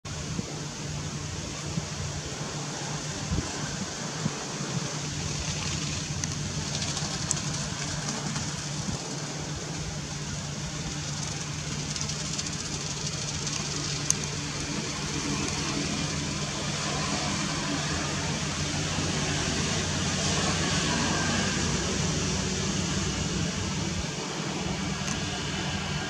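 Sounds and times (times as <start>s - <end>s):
continuous hiss: 0.1s - 26.0s
low hum: 0.1s - 26.0s.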